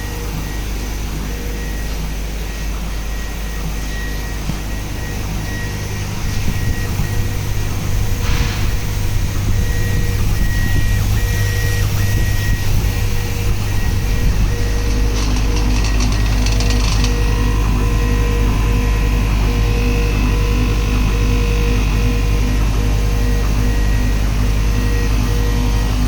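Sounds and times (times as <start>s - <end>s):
high whine: 0.0s - 26.0s
laser cutter low hum: 0.0s - 26.0s.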